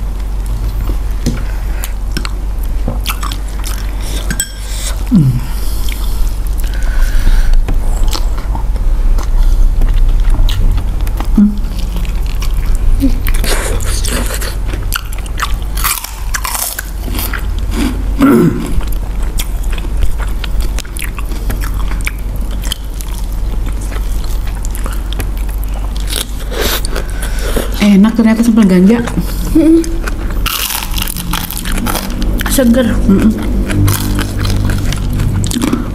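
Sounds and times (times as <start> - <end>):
steady low hum: 0.0 - 35.9
chewing and crunching: 0.2 - 5.1, 5.7 - 35.9.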